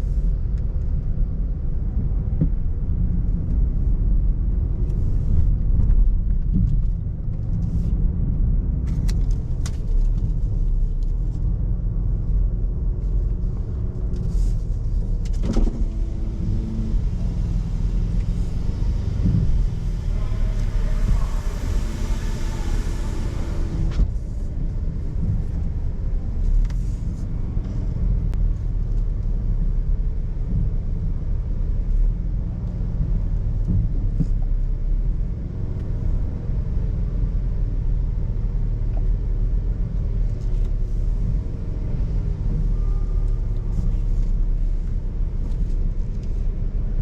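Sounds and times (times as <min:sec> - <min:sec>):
car rumbling: 0:00.0 - 0:47.0.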